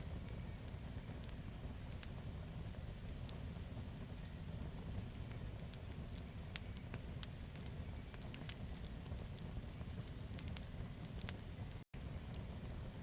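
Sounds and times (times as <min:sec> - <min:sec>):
campfire flames rumbling: 0:00.0 - 0:13.0
wood crackling and popping: 0:00.0 - 0:13.0.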